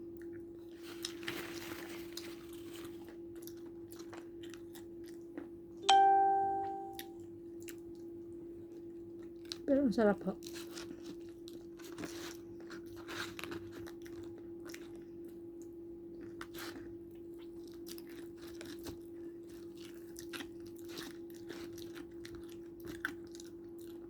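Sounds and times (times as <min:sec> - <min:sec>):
person crunching and chewing food: 0:00.0 - 0:24.0.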